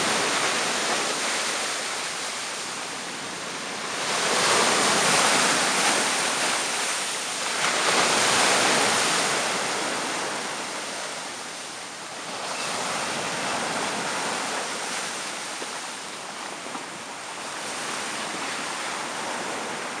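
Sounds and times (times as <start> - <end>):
slushy surf washing on beach: 0.0 - 20.0.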